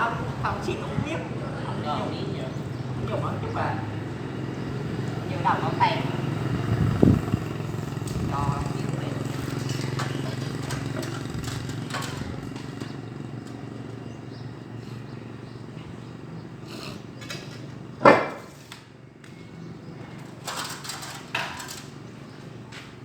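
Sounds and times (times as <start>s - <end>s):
engine running at low speed: 0.0s - 23.0s.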